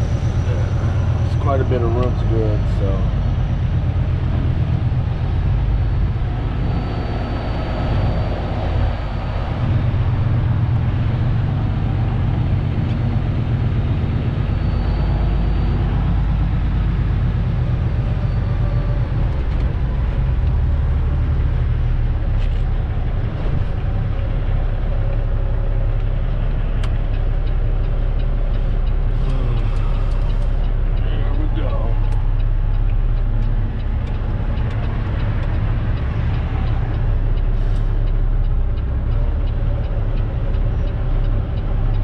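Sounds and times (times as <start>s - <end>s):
diesel truck engine rumbling: 0.0s - 42.0s.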